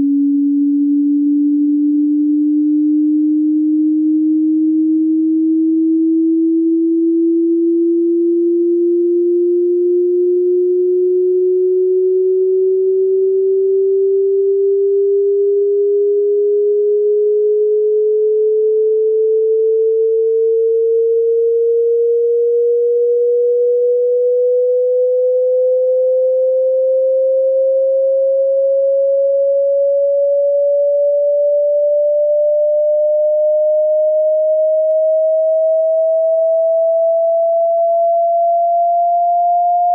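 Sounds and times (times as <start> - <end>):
rising sine-wave tone: 0.0 - 39.9.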